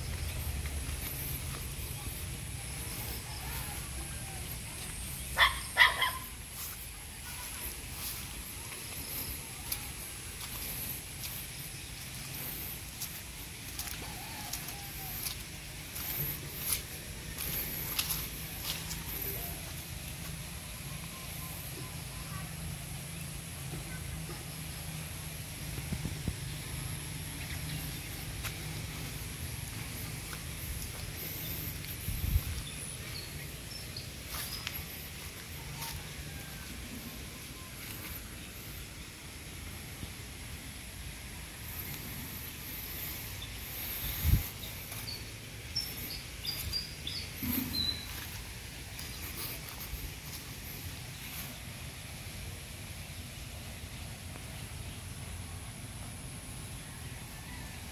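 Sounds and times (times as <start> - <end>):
steady low rumble: 0.0 - 14.0, 22.8 - 56.4
small birds chirping: 0.0 - 39.0, 41.6 - 51.7
steady high-pitched hiss: 0.0 - 57.9.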